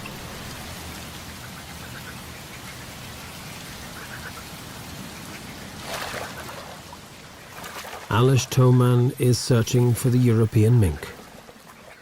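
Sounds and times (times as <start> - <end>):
steady hiss of water: 0.0 - 12.0.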